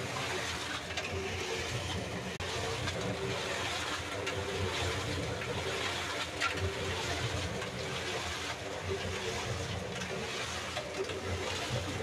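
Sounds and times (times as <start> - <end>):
concrete mixer motor hum: 0.0 - 12.0
wet concrete sloshing: 0.0 - 12.0.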